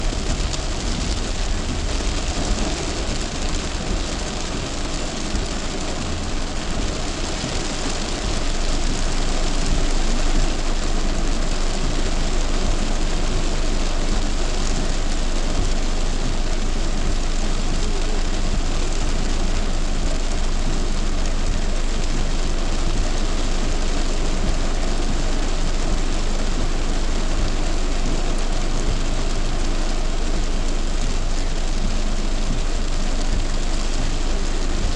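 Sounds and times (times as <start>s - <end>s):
car engine: 0.0s - 34.9s
heavy rain on a car: 0.0s - 34.9s
tyres on wet road: 0.0s - 34.9s.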